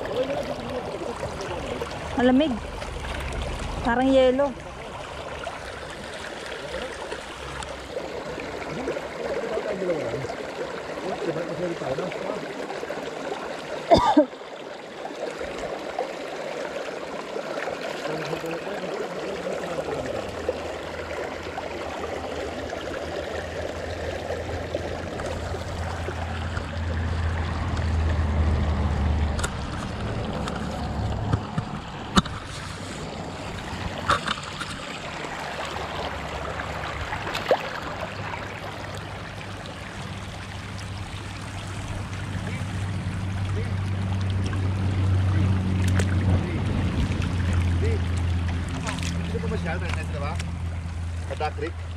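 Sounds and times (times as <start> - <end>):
creek trickling over stones: 0.0 - 51.9.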